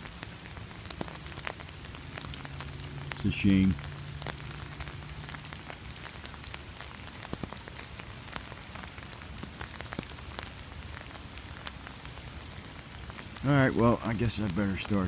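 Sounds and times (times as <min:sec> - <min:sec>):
drops ticking on umbrella: 0:00.0 - 0:13.5
rain falling: 0:00.0 - 0:15.0.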